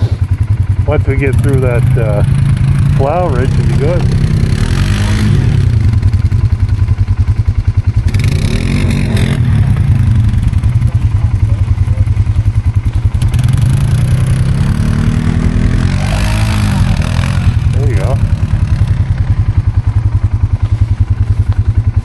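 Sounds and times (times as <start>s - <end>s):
atv engine revving in snow: 0.0s - 22.0s.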